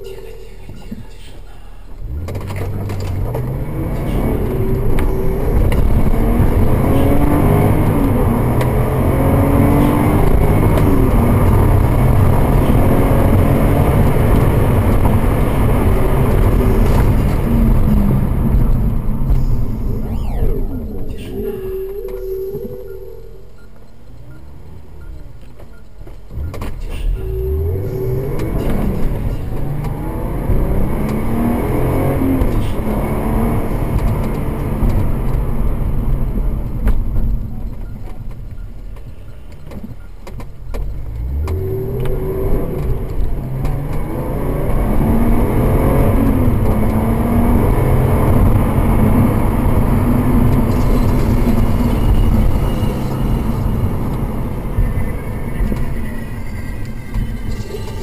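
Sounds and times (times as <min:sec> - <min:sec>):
car engine accelerating: 0:00.0 - 0:58.0
road noise: 0:00.0 - 0:58.0.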